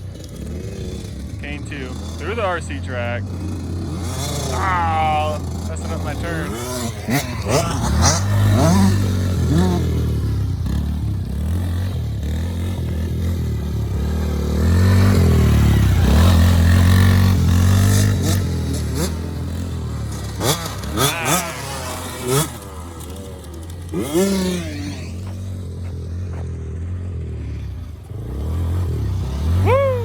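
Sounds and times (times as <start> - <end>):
small off-road engines revving: 0.0 - 30.0.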